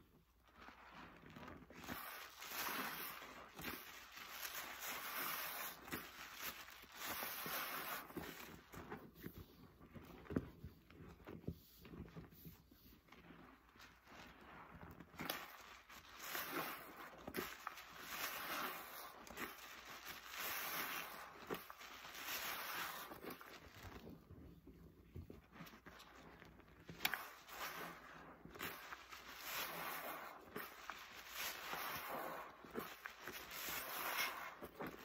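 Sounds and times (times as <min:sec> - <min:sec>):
wet sponge squelching: 0:00.0 - 0:35.0.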